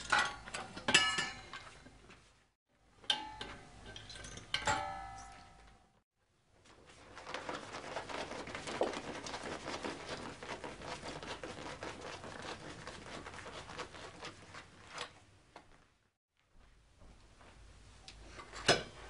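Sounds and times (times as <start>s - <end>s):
banner rustling and crinkling: 0.0s - 2.6s, 5.6s - 19.0s.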